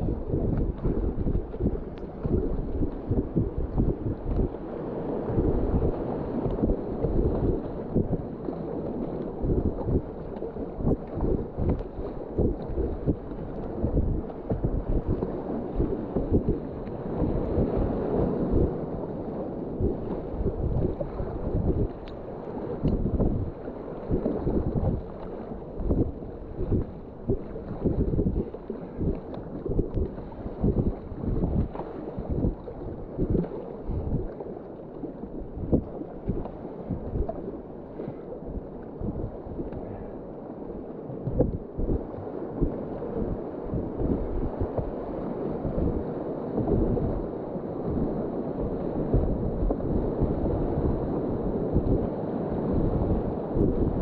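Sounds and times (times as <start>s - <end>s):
wind buffeting microphone: 0.0s - 34.4s, 35.1s - 40.2s, 41.1s - 54.0s.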